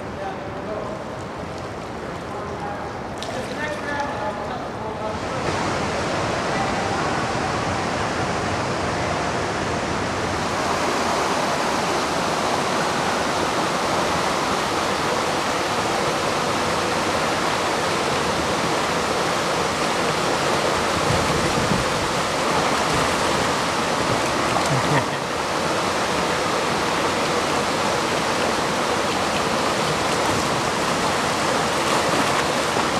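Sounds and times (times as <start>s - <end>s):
river water rushing over rapids: 0.0s - 32.9s.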